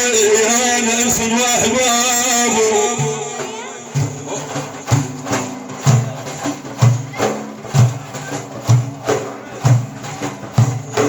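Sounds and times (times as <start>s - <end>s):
percussion beat: 0.0s - 11.0s.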